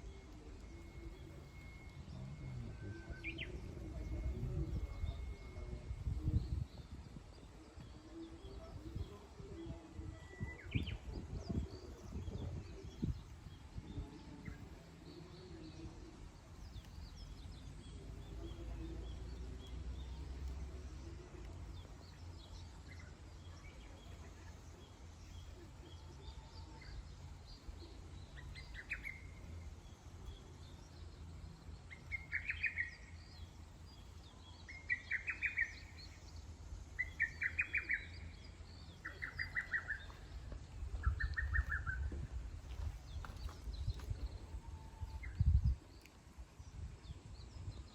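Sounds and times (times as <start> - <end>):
birds chirping: 0.0 - 47.9
steady low rumble: 0.0 - 47.9.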